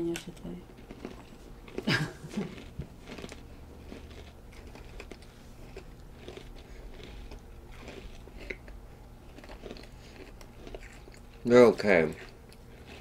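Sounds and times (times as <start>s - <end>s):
cookies crunching while chewed: 0.1s - 13.0s.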